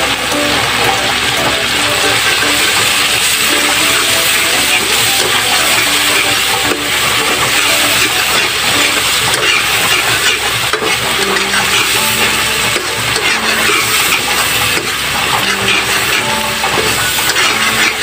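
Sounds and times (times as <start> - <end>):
food sizzling in hot oil: 0.0 - 18.0
metal spatula stirring: 2.3 - 18.0.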